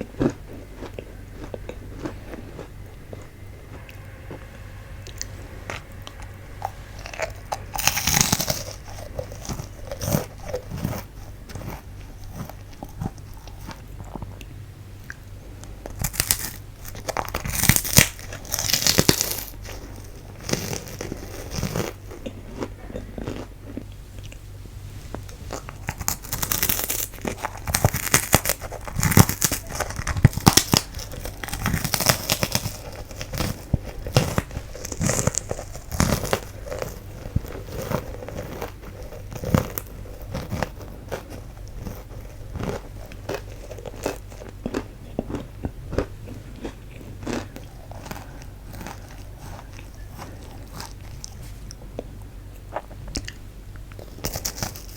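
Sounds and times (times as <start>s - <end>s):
crunchy snack chewing: 0.0s - 4.4s, 5.0s - 24.4s, 25.2s - 52.1s, 52.7s - 54.9s.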